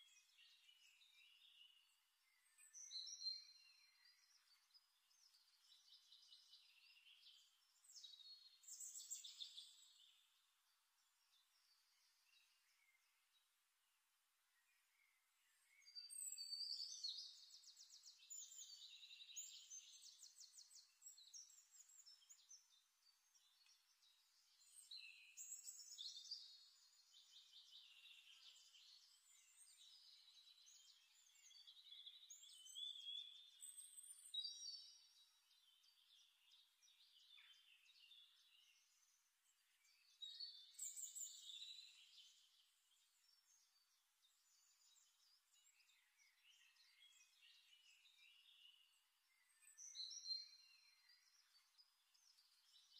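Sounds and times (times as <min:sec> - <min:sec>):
faint songbird trills and chirps: 0:00.0 - 0:52.9.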